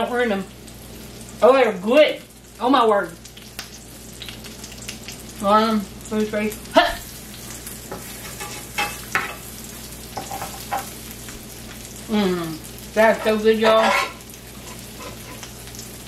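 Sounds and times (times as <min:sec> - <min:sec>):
patties sizzling in a pan: 0:00.0 - 0:16.0.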